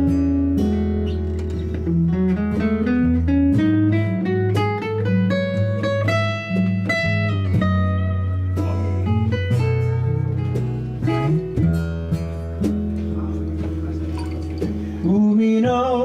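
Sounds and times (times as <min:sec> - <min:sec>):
acoustic guitar picking melody: 0:00.0 - 0:16.0
bass line: 0:00.0 - 0:16.0
strummed chords: 0:00.0 - 0:16.0.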